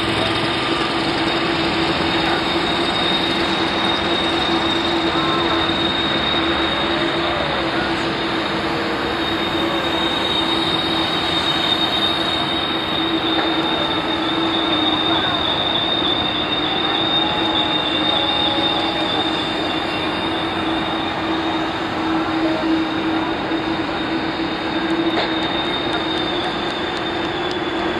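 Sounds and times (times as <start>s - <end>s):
jet turbine whine: 0.0s - 27.9s.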